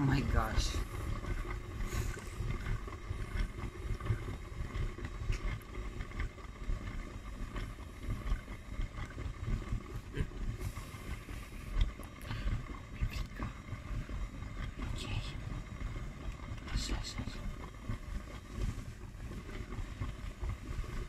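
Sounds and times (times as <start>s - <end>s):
faint motor whine: 0.0s - 21.0s
water churning and sloshing: 0.0s - 21.0s.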